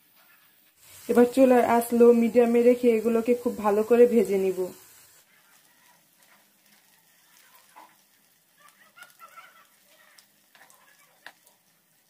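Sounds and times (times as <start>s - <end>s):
crackles of frying: 0.0s - 12.0s
snack balls deep-frying in oil: 0.2s - 12.0s.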